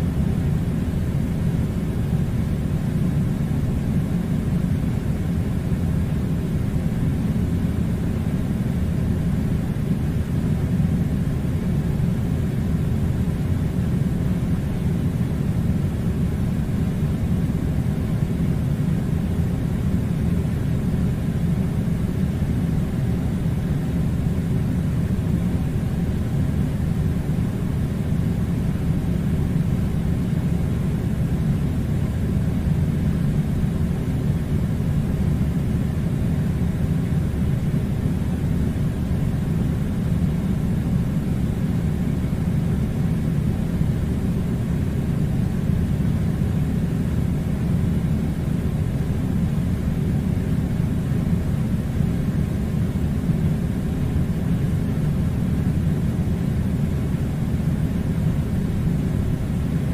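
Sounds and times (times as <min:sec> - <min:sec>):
air conditioner running: 0:00.0 - 0:59.9.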